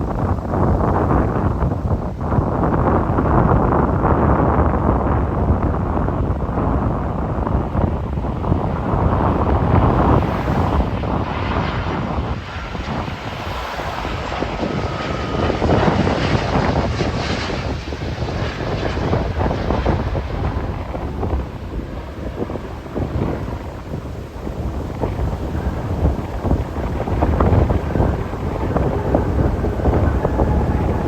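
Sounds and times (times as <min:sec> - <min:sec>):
jet engines roaring: 0:00.0 - 0:31.0
wind buffeting microphone: 0:00.0 - 0:31.0
faint engine whine: 0:05.8 - 0:31.0.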